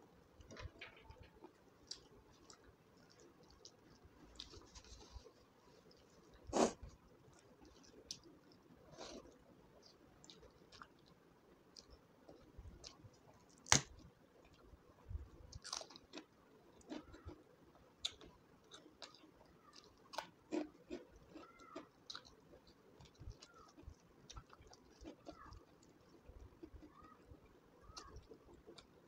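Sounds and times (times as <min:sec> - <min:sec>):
person chewing with crunch: 0:00.4 - 0:13.8, 0:15.4 - 0:29.0.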